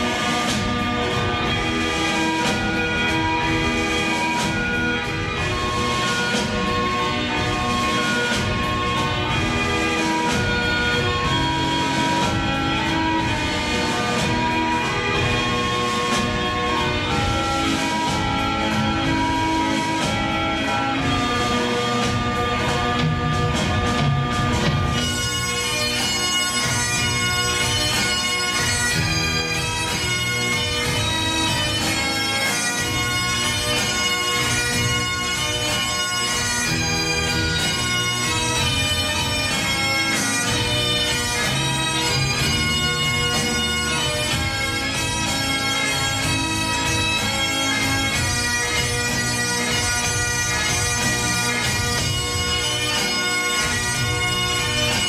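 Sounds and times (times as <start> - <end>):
bagpipes playing: 0.0 - 55.0.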